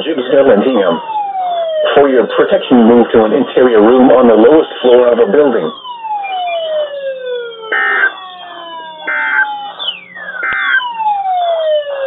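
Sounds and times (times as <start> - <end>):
alarm siren-like sweeps: 0.0 - 12.0.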